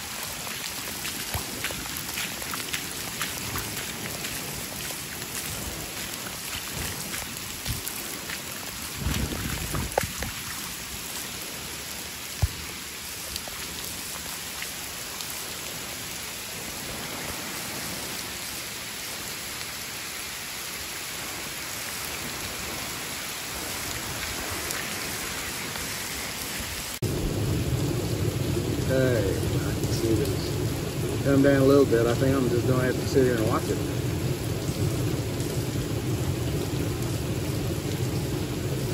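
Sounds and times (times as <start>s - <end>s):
heavy rain falling: 0.0s - 38.9s
rain on pool and concrete: 0.0s - 38.9s.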